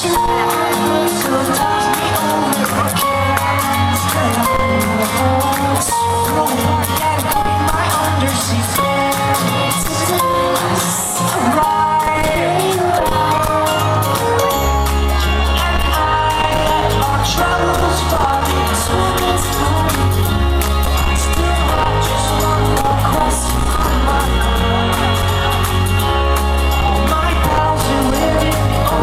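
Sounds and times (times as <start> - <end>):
held bass notes: 0.0 - 29.0
keyboards: 0.0 - 29.0
live electropop band: 0.0 - 29.0
person singing: 0.0 - 29.0.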